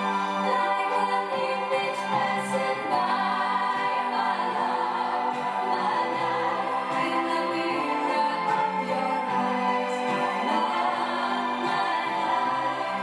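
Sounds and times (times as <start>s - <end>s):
song with singing over speakers: 0.0s - 13.0s.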